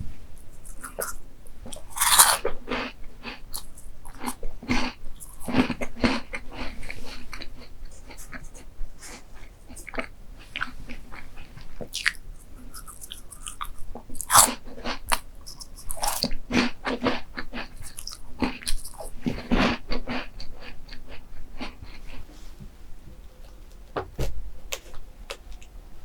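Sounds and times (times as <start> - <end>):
person chewing crunchy food: 0.4 - 22.3.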